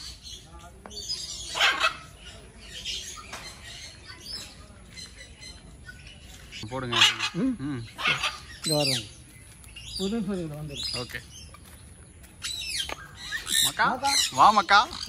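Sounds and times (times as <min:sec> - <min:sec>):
loud wavering bird calls: 0:00.0 - 0:11.7, 0:12.4 - 0:15.0
birds chirping: 0:00.0 - 0:15.0.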